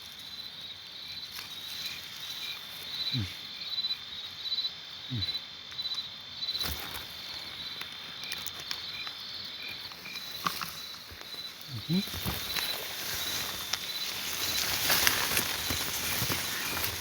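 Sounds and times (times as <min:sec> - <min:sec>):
insects buzzing: 0:00.0 - 0:17.0
pulsed insect chirping: 0:00.0 - 0:17.0.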